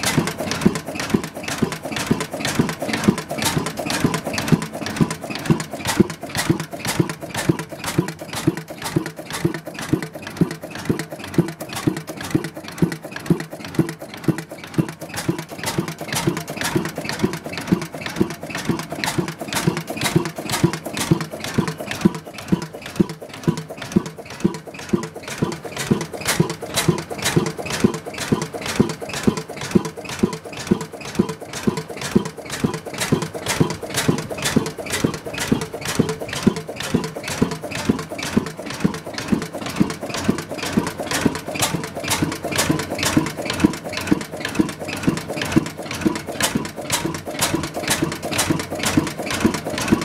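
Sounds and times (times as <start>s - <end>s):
oil engine running: 0.0s - 50.0s
sharp exhaust knocks: 0.0s - 50.0s.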